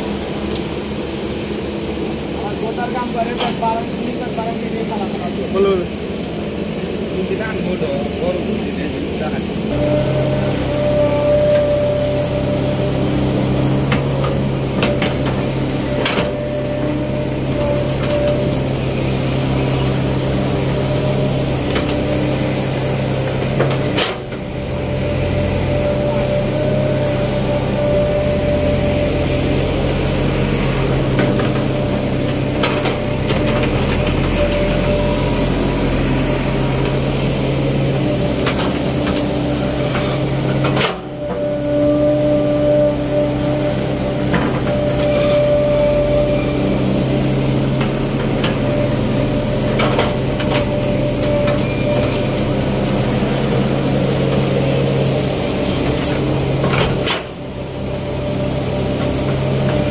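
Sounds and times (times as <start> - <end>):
excavator diesel engine running: 0.0 - 59.9
held hydraulic whine: 0.0 - 59.9.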